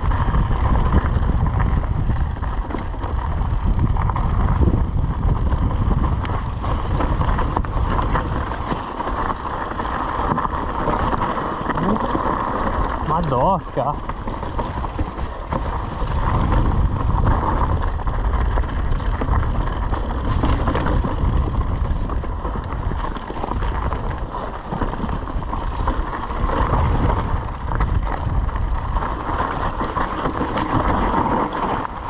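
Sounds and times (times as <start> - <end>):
wind on microphone: 0.0 - 9.5, 12.7 - 32.0
bike rattling over bumps: 0.0 - 32.0
bike tyres crunching on dirt: 0.0 - 32.0.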